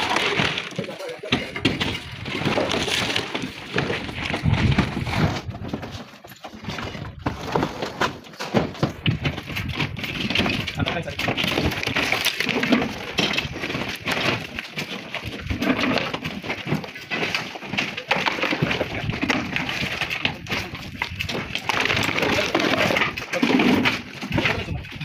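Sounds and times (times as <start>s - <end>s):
stone slabs clattering: 0.0s - 25.0s.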